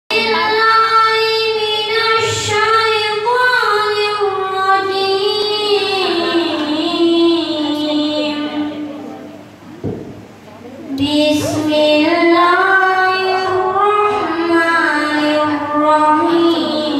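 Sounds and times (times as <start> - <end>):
child chanting: 0.1 - 9.1, 10.9 - 16.9.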